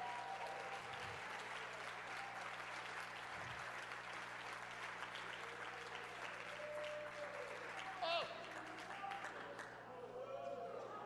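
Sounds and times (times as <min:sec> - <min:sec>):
congregation clapping: 0:00.0 - 0:09.9.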